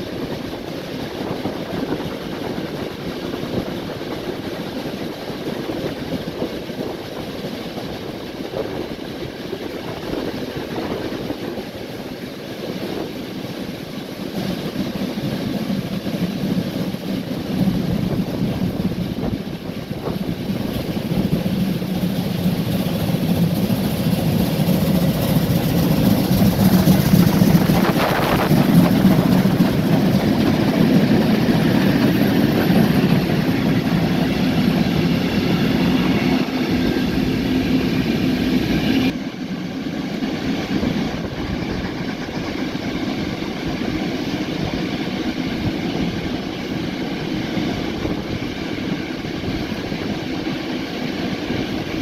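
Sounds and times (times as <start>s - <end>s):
train wheels on rail: 0.0s - 52.0s.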